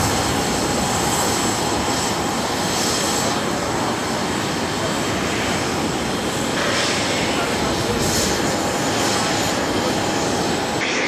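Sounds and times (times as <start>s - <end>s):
jet engines running steadily: 0.0s - 11.0s.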